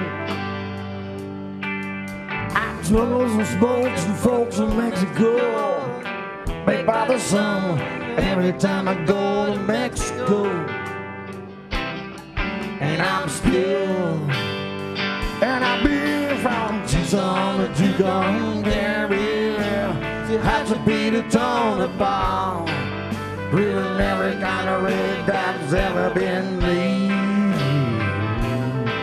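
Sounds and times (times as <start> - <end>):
bass guitar: 0.0 - 29.0
electric guitar lead: 0.0 - 29.0.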